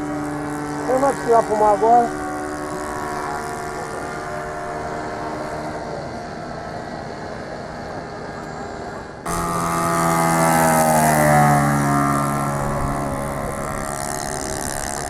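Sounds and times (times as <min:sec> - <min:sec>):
model airplane engine: 0:00.0 - 0:15.0.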